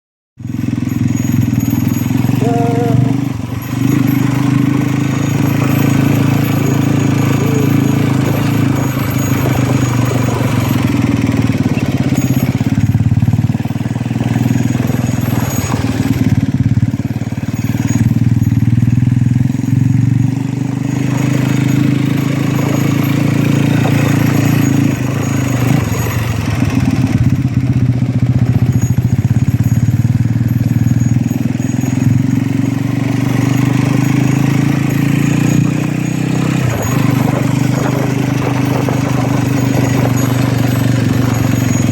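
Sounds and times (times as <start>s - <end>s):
engine running with low hum: 0.4s - 41.9s.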